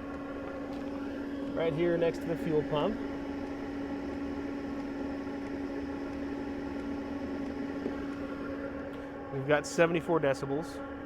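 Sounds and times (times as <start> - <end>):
diesel heater humming: 0.0 - 11.0.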